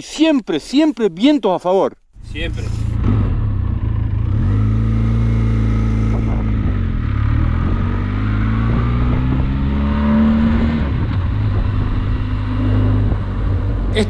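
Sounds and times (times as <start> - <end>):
motorcycle engine accelerating: 2.2 - 14.0.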